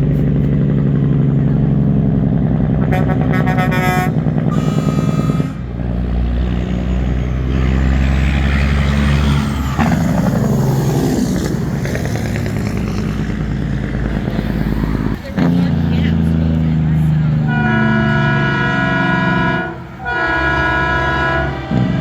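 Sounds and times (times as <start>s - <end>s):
diesel truck engines passing: 0.0s - 22.0s.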